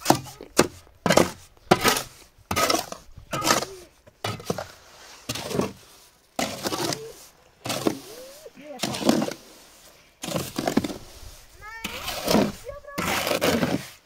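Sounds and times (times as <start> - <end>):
trowel scraping mortar on blocks: 0.0 - 14.0.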